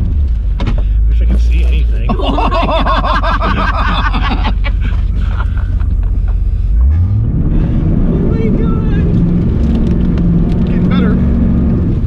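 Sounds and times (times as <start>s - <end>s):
car engine revving: 0.0s - 12.0s
tires churning through mud: 0.0s - 12.0s.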